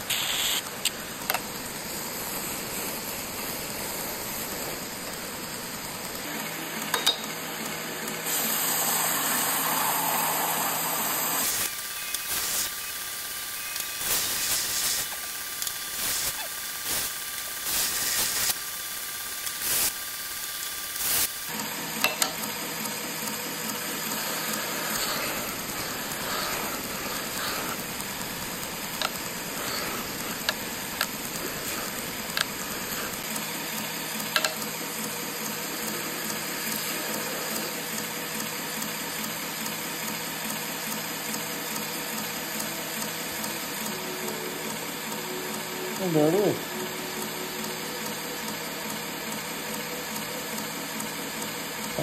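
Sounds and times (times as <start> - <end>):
belt grinder hissing: 0.0 - 52.0.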